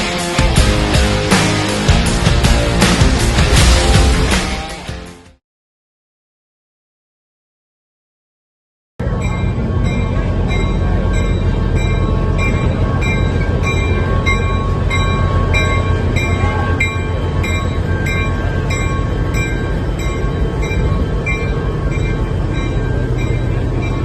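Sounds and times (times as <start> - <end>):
train rumbling: 0.0 - 5.0, 9.0 - 24.0.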